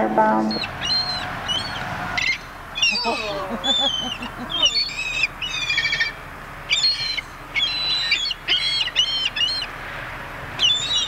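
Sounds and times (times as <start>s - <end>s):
birds squealing: 0.1s - 11.0s.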